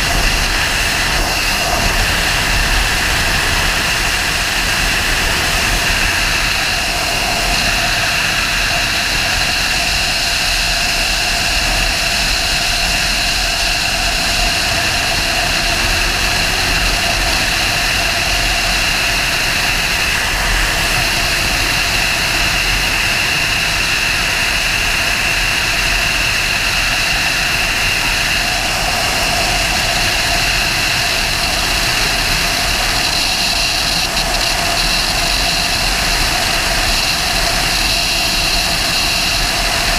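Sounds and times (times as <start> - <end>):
wind noise: 0.0 - 39.9.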